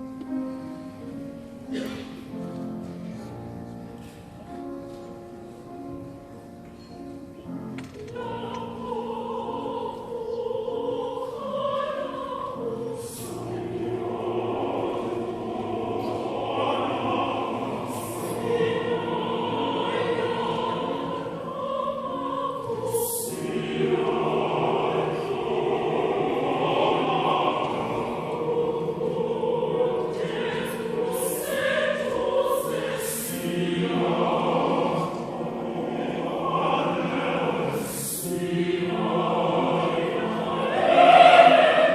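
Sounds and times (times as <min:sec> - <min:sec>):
choir singing in harmony: 0:00.0 - 0:41.9.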